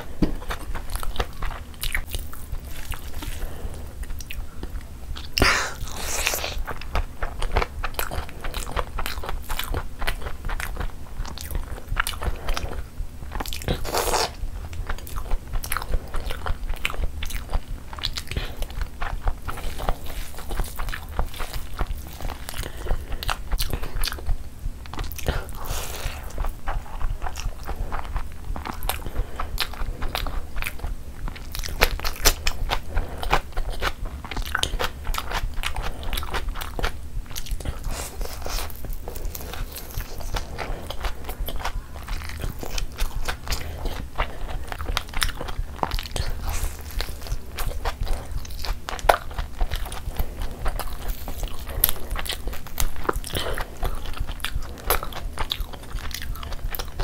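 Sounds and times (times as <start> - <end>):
steady low hum: 0.0 - 57.0
chewing with small clicks: 0.3 - 5.4, 6.6 - 14.0, 14.6 - 57.0.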